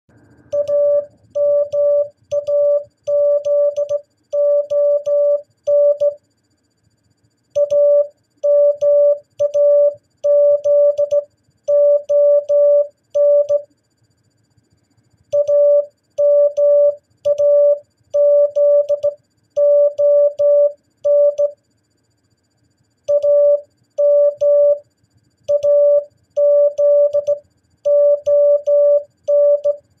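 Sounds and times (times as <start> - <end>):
morse code beeps: 0.5 - 6.2, 7.6 - 13.7, 15.4 - 21.6, 23.1 - 24.8, 25.5 - 29.8.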